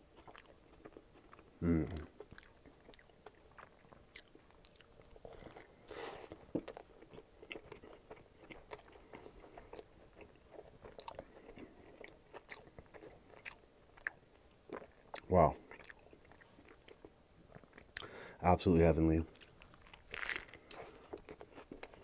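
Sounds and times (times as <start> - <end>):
close chewing: 0.0 - 18.2, 19.2 - 22.0.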